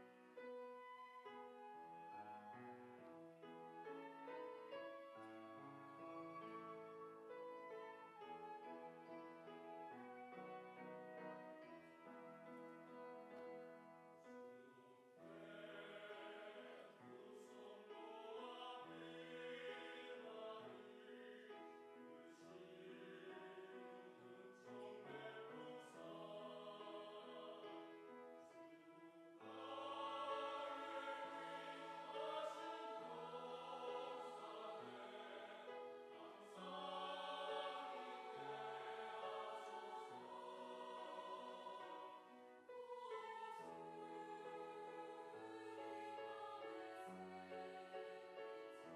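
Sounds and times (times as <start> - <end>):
choir singing a hymn: 3.5 - 48.9.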